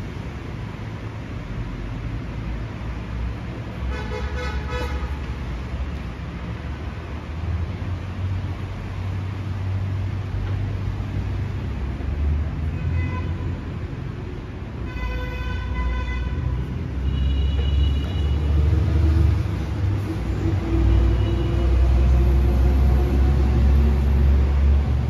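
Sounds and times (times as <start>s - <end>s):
street traffic rumbling: 0.0s - 25.0s.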